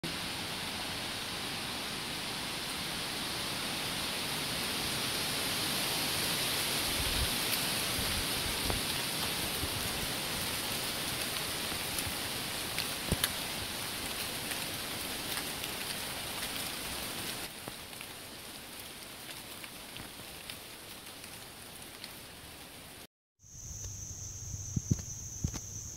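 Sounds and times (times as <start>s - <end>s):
wind rustling leaves: 0.0s - 25.9s.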